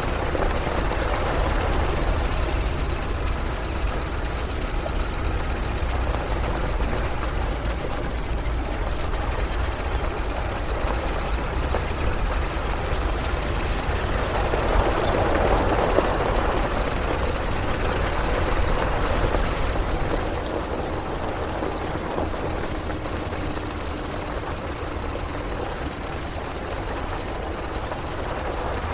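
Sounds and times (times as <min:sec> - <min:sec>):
tyres on gravel road: 0:00.0 - 0:28.9
vehicle engine rumble: 0:00.0 - 0:28.9.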